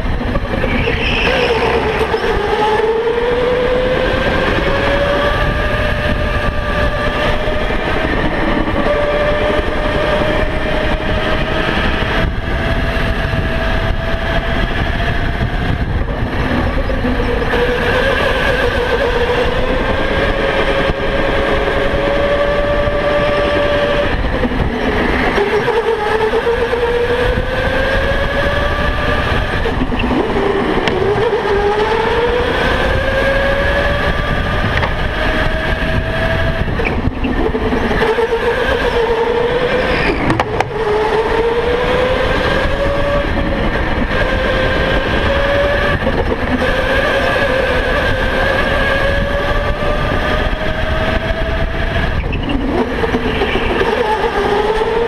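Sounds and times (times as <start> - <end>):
electric go-kart motor whining: 0.0 - 55.0
wind rumble on microphone: 0.0 - 55.0.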